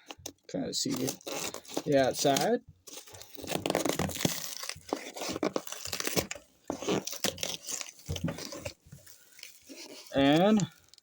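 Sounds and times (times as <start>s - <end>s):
box and wrapping tearing: 0.8s - 11.0s.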